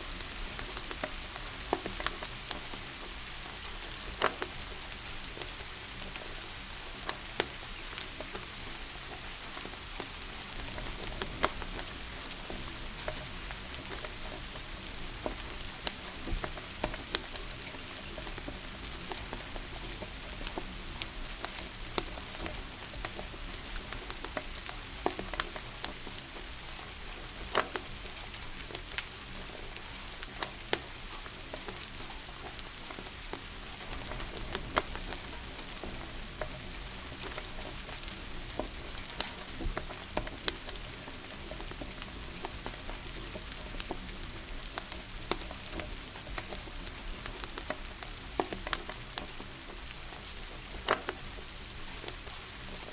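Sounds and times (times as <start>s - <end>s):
falling rain hissing: 0.0s - 52.9s
wood fire crackling: 0.0s - 52.9s.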